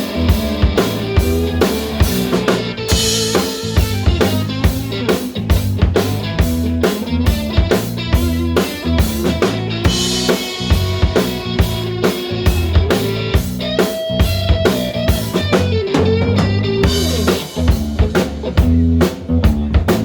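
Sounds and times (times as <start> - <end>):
lead guitar bending notes: 0.0 - 18.9
drum kit beat: 0.0 - 20.0
rock band playing: 0.0 - 20.0.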